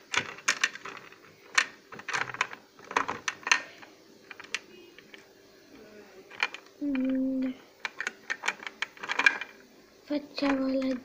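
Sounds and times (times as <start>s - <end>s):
plastic pieces clicking and clattering: 0.0s - 5.2s, 6.3s - 9.6s, 10.4s - 11.0s.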